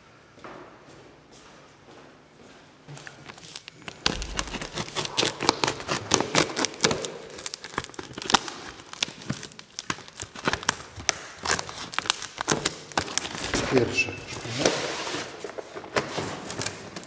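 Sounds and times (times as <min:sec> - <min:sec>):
plastic wrapping crinkling: 0:02.9 - 0:17.0.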